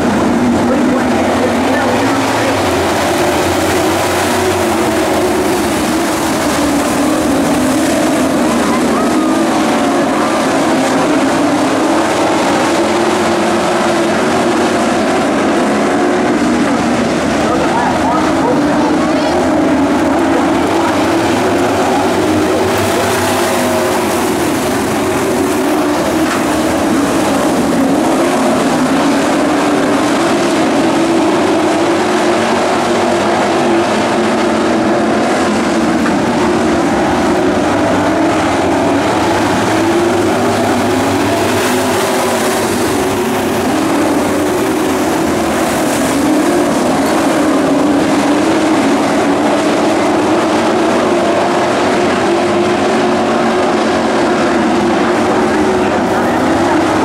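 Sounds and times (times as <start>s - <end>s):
racing truck engines droning: 0.0s - 57.0s.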